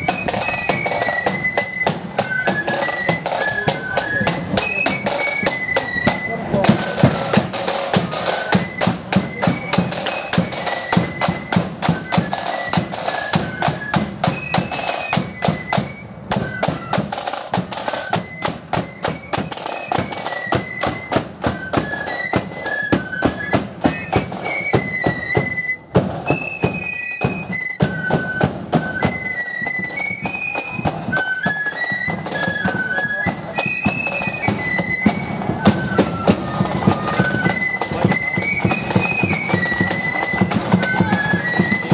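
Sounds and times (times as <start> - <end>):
flute melody: 0.0 - 41.9
marching drums beating: 0.0 - 41.9.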